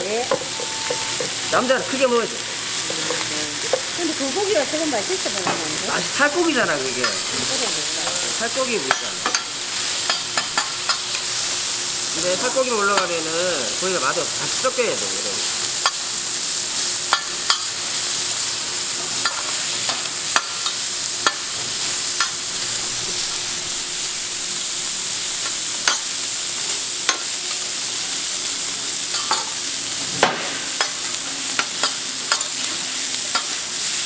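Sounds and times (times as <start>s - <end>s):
meat sizzling on griddle: 0.0s - 34.0s.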